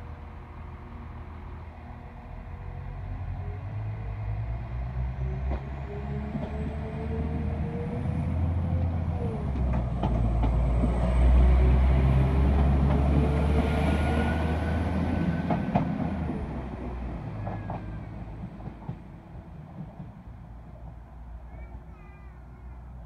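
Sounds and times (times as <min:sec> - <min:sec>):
diesel train rumble with whine: 0:00.0 - 0:23.0.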